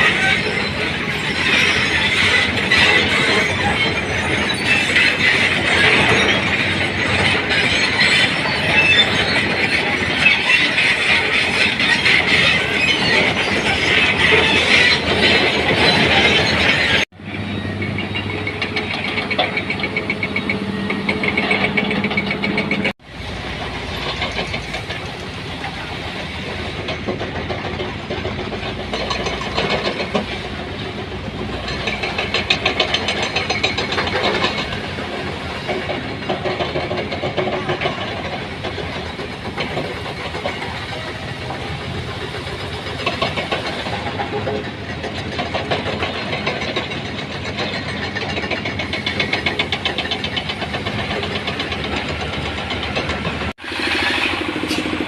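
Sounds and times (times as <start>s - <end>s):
heavy machinery engine: 0.0s - 55.0s
metallic clatter and squeal: 0.0s - 55.0s.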